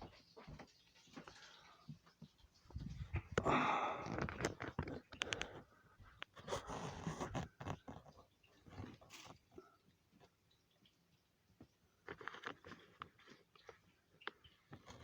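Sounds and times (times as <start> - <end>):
rustling and clattering objects: 0.0 - 10.4, 11.6 - 15.0.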